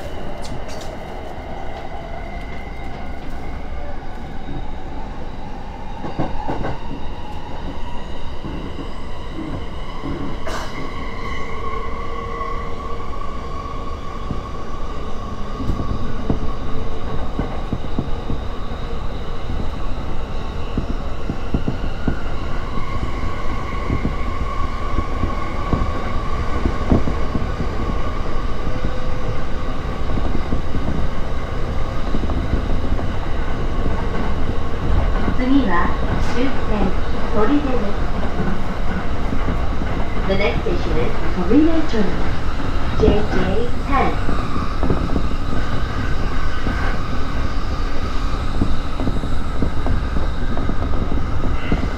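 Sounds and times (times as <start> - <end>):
train rumble inside carriage: 0.0 - 51.9.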